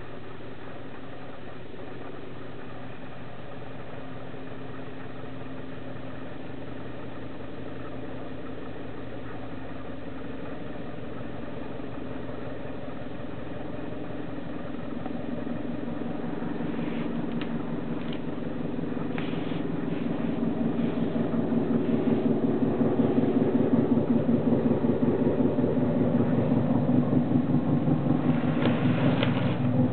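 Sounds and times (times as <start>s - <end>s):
machine droning hum: 0.0s - 29.9s.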